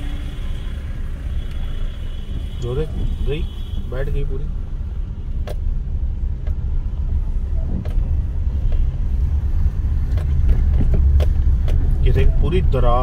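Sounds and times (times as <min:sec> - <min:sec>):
tyre and engine rumble: 0:00.0 - 0:13.0.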